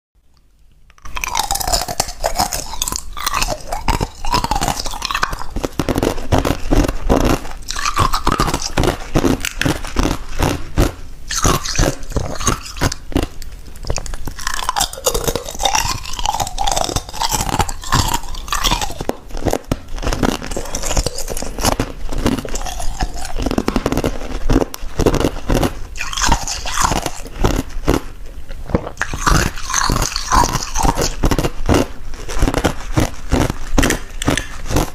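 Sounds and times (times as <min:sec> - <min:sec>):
ice crunching while chewed: 0:00.4 - 0:34.9.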